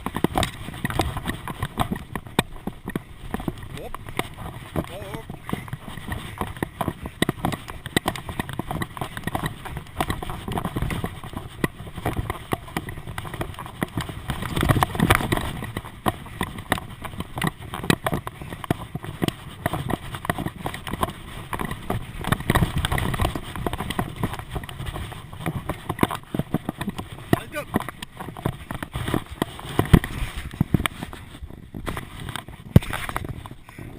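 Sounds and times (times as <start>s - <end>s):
bicycle rattling and clicking: 0.0s - 33.9s
wind rumble: 0.0s - 33.9s.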